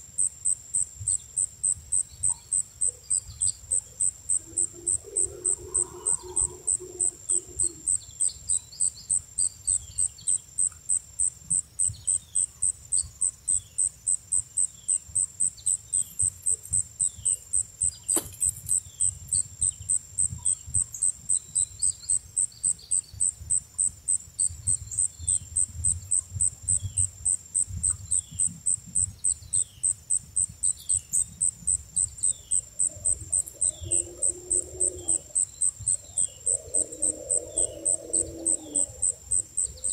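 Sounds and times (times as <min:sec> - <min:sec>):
insect chirping: 0:00.0 - 0:39.9
small birds chirping faintly: 0:00.0 - 0:39.9.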